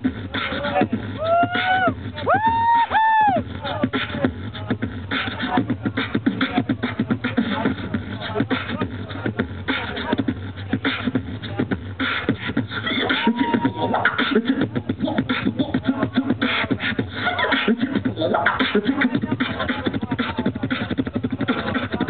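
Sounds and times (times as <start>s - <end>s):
beatboxing through microphone: 0.0s - 22.0s.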